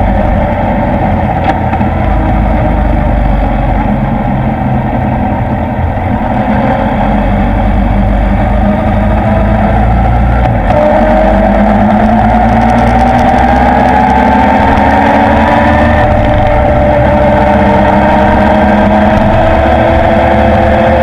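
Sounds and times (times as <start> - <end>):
motorcycle engine running: 0.0 - 21.0
wind noise over microphone: 0.0 - 21.0.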